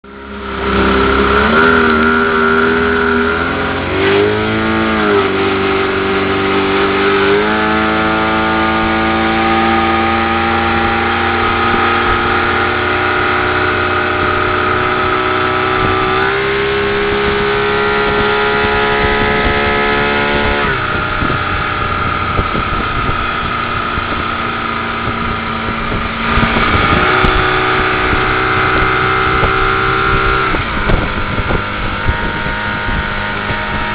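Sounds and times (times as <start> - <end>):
motorboat engine running: 0.0 - 33.9.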